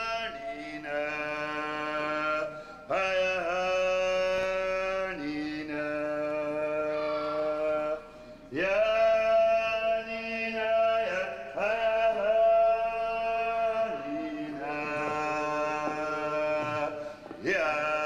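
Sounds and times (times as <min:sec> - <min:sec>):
chanted singing: 0:00.0 - 0:18.0.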